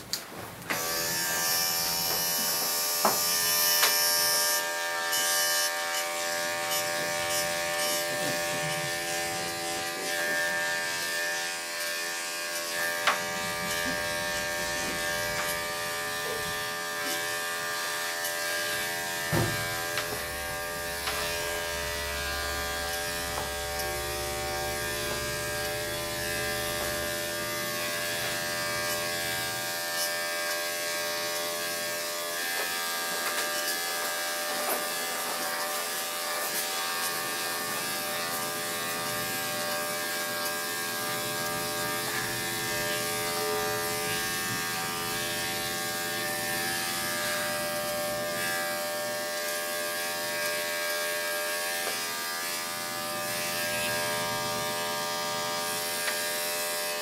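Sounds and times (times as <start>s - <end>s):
electric clippers humming: 0.0s - 57.0s.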